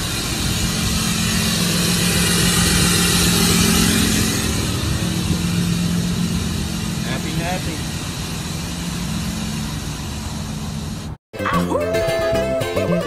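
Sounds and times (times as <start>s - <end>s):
diesel truck engine idling: 0.0s - 11.7s.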